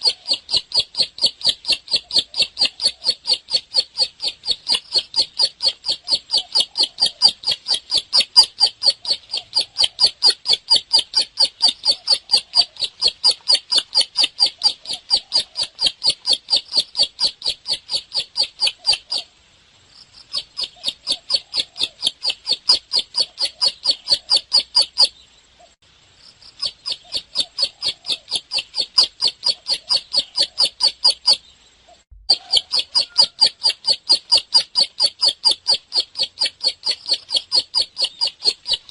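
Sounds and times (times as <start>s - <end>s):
bird chirping: 0.0s - 19.3s, 19.9s - 38.9s.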